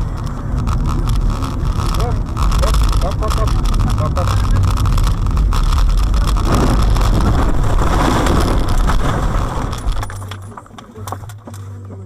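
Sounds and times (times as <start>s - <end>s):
wind noise: 0.0s - 10.2s
car engine and road rumble: 0.0s - 12.0s.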